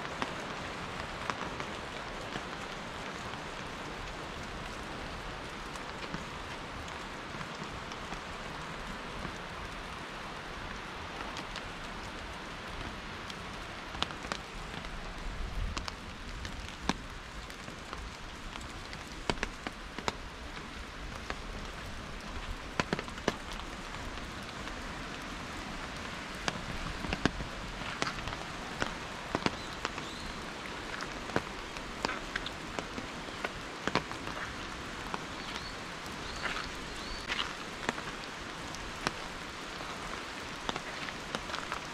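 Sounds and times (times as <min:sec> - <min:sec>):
raindrops ticking on surfaces: 0:00.0 - 0:41.9
steady rain falling: 0:00.0 - 0:41.9.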